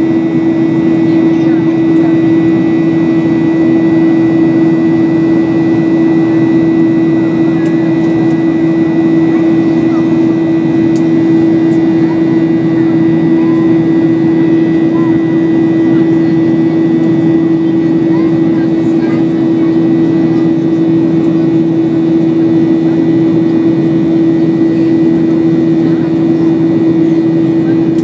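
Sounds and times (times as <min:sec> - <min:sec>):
jet engines in cabin: 0:00.0 - 0:28.0.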